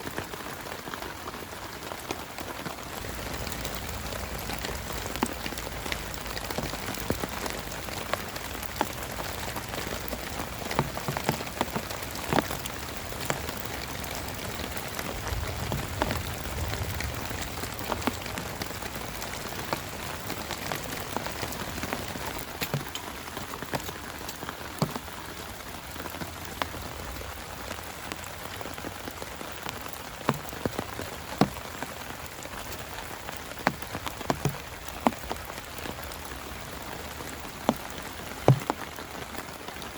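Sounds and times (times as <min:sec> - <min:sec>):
heavy rain on a tarp: 0:00.0 - 0:39.9.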